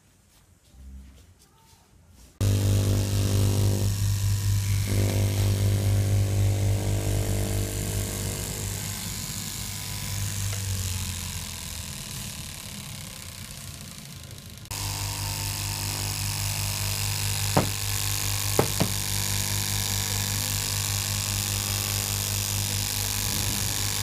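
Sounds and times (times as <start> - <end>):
cloth cutting machine humming: 2.4 - 24.0.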